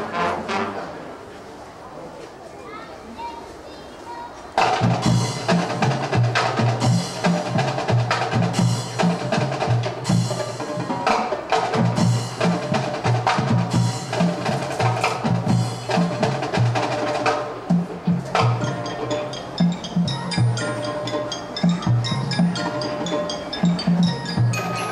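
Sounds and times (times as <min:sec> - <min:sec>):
marching band playing: 0:00.0 - 0:01.1, 0:04.6 - 0:24.9.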